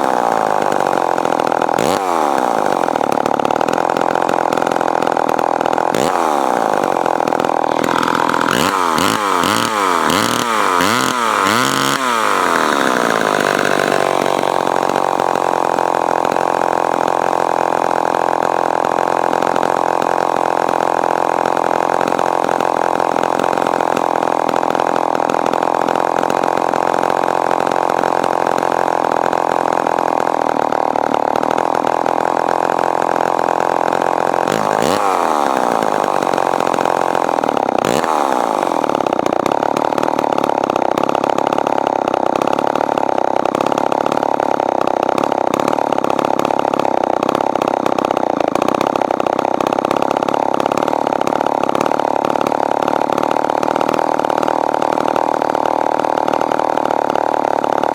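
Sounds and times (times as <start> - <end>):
chainsaw engine revving: 0.0 - 57.9.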